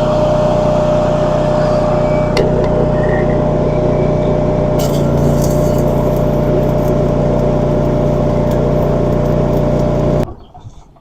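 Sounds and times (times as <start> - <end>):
small engine droning: 0.0 - 10.3.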